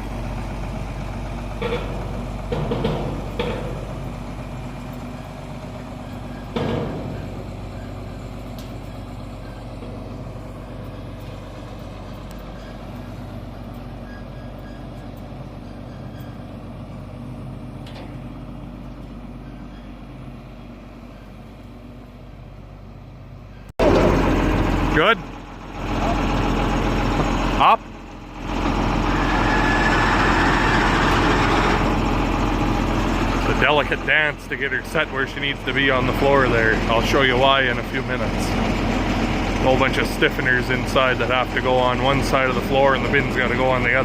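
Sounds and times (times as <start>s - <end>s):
heavy machine engine idling: 0.0s - 44.0s.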